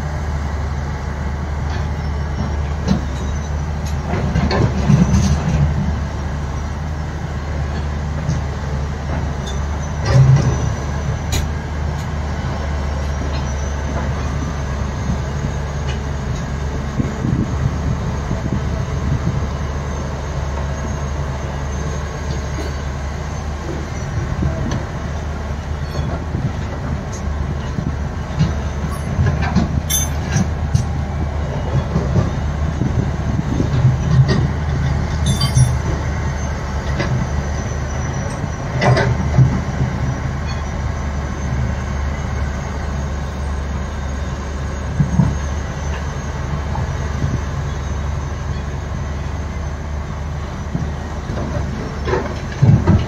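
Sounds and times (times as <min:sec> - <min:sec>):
diesel engines rumbling: 0:00.0 - 0:53.0.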